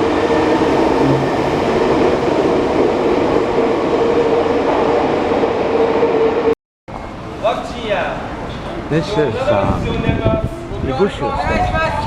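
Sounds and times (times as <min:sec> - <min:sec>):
subway wheel and track noise: 0:00.0 - 0:12.0.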